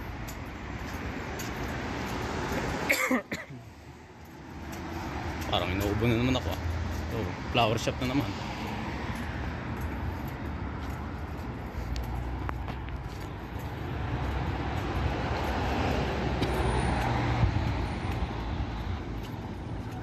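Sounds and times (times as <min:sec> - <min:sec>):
cars driving by: 0:00.0 - 0:20.0.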